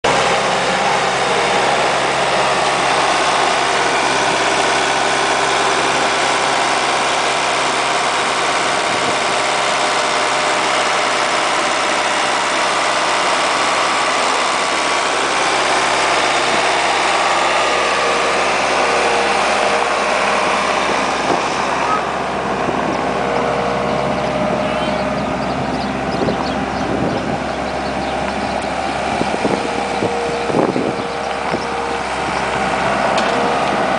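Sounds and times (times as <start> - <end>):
loader engine running: 0.0 - 33.9.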